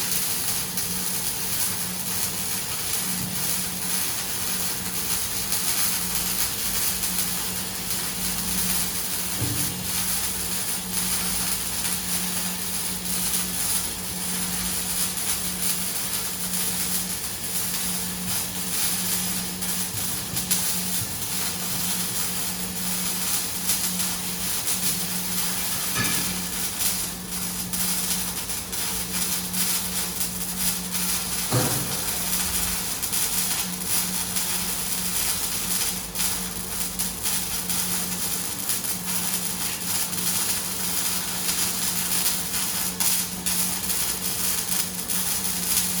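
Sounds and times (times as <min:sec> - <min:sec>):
welding arc hissing: 0:00.0 - 0:46.0.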